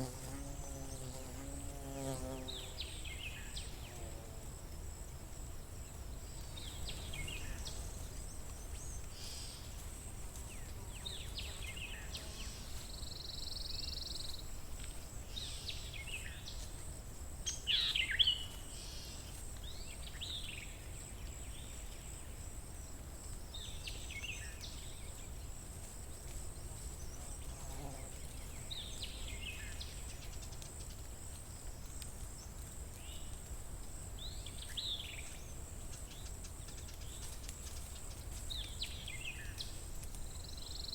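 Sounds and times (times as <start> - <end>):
songbirds chirping: 0.0 - 4.2, 5.4 - 16.8, 17.4 - 40.9.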